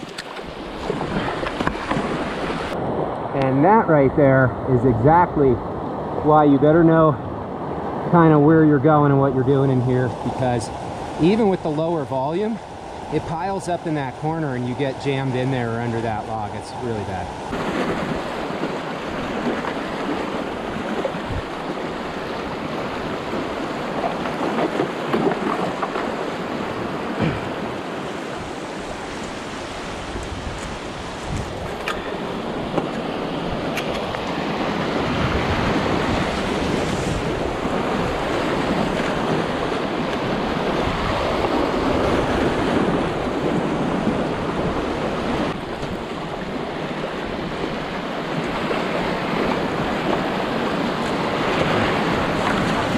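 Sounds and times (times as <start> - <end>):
creek rushing over rocks: 8.1 - 46.9, 47.6 - 52.9.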